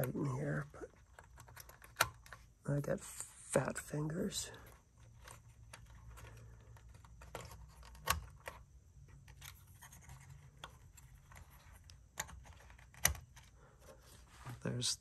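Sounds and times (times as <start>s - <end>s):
faint scratching and handling: 0.0s - 15.0s.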